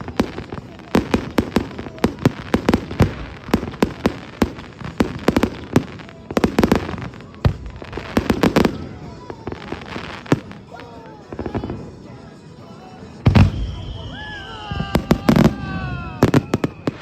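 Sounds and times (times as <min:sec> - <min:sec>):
fireworks bangs and pops: 0:00.0 - 0:12.2, 0:13.2 - 0:17.0.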